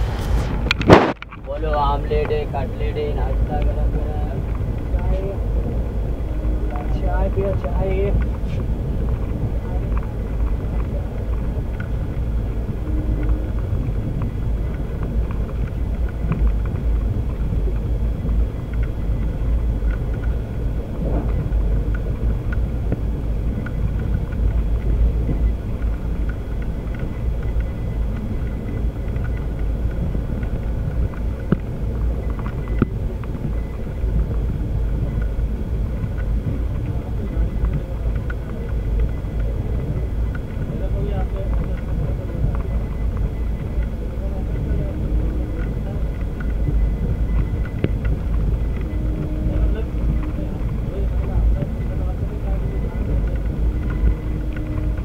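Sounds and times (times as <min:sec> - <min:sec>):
train rumbling inside carriage: 0:00.0 - 0:55.0.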